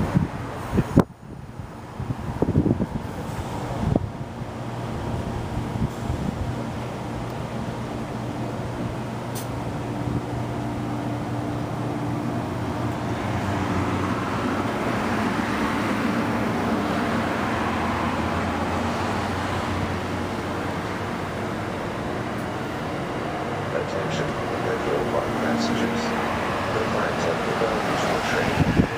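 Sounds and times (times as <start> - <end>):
low train hum: 0.0 - 28.9
train rushing sound: 0.0 - 28.9.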